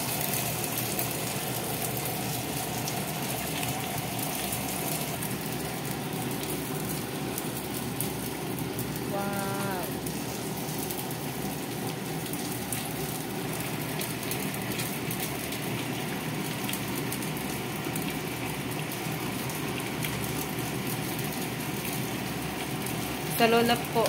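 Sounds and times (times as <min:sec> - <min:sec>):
fish frying in oil: 0:00.0 - 0:24.0
pot boiling and bubbling: 0:00.0 - 0:24.0.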